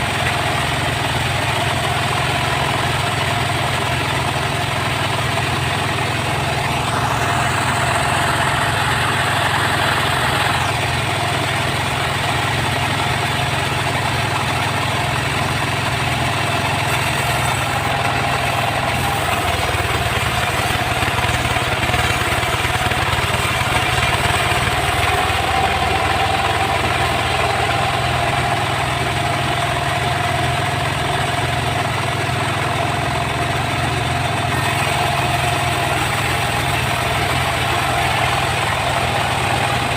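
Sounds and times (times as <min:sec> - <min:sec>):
high saw whine: 0:00.0 - 0:32.8, 0:33.5 - 0:39.9
sawmill engine hum: 0:00.0 - 0:39.9.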